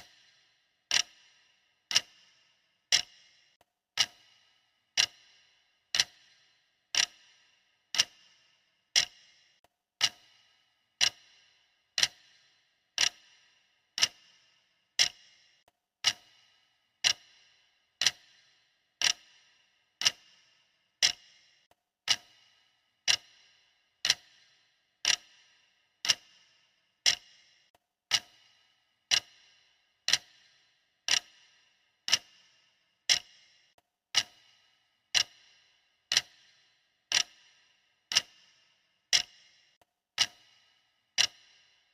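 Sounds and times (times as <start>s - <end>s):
clock ticking: 0.0s - 41.9s.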